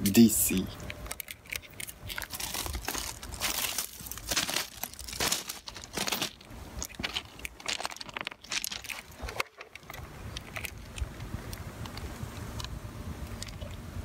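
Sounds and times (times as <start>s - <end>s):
crunching handling noise: 0.6s - 13.8s
gravel ballast rattling: 0.6s - 13.8s.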